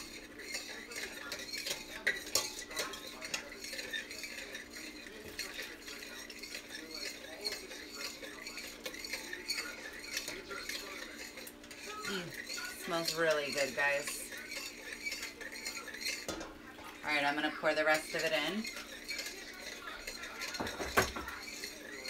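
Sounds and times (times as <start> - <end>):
metal whisk scraping a pot: 0.0 - 22.0.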